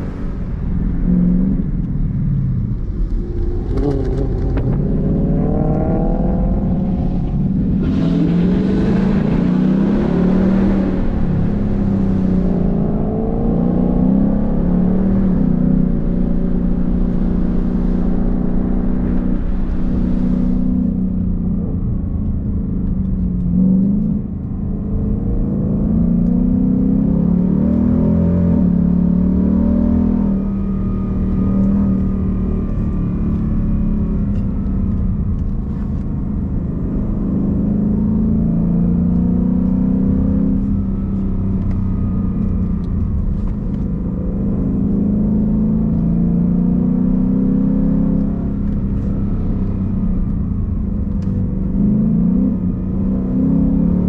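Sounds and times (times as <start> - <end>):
car engine accelerating: 0.0 - 54.0
road and tyre noise: 0.0 - 54.0.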